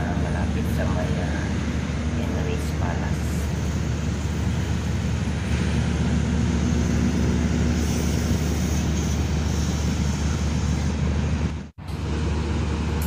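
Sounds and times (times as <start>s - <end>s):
generator humming: 0.0s - 13.0s.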